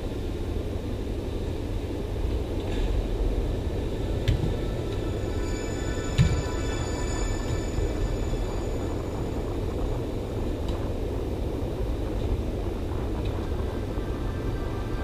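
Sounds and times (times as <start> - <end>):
indoor hall rumble: 0.0 - 15.0.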